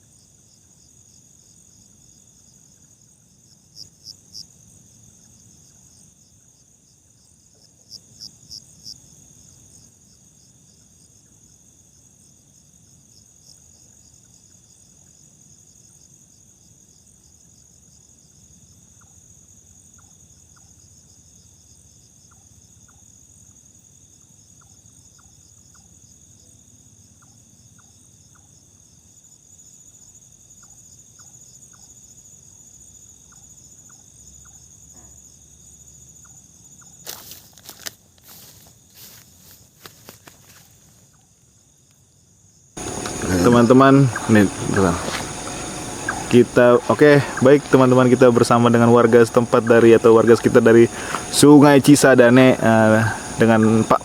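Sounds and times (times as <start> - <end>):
crickets trilling: 0.0 - 54.0
loud cricket chirps: 0.0 - 54.0.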